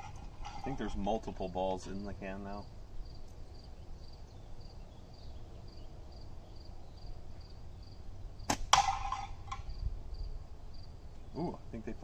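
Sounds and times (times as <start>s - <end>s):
insects chirping: 0.0s - 11.6s
low outdoor rumble: 0.0s - 12.0s.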